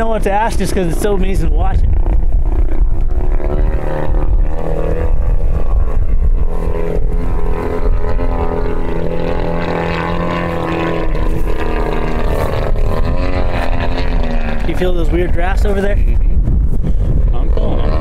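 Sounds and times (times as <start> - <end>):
model plane engine revving in flight: 0.0 - 18.0.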